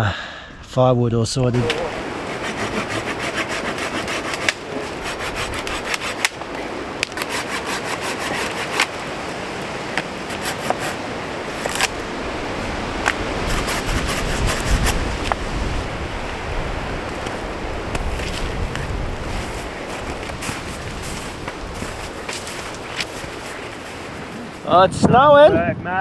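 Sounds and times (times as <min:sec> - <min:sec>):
hand saw cutting wood: 0:01.6 - 0:24.7.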